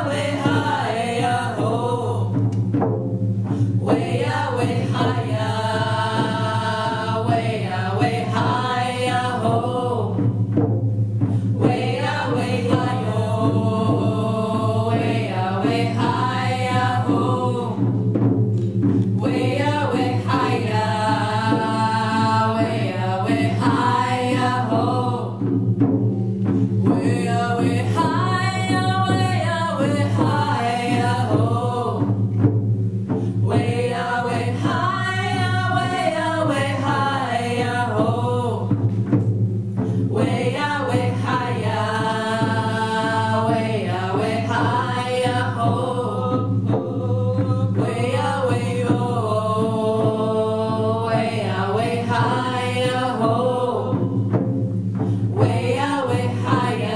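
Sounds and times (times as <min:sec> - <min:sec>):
women singing together: 0:00.0 - 0:02.7, 0:03.5 - 0:10.6, 0:11.2 - 0:32.5, 0:33.1 - 0:56.9
frame drums beating: 0:00.0 - 0:56.9.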